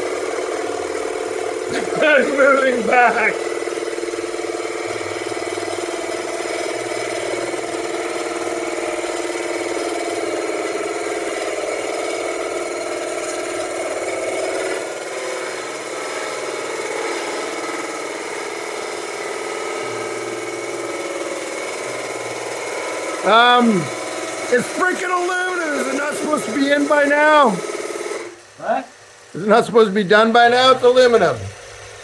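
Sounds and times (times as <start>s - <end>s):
metal lathe motor humming: 0.0s - 32.0s.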